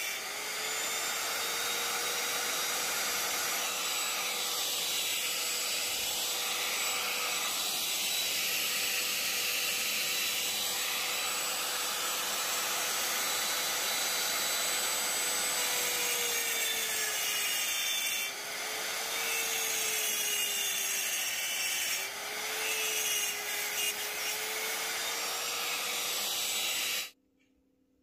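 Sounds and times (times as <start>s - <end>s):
end mill cutting metal: 0.0s - 27.1s
power tool motor whine: 0.0s - 27.2s.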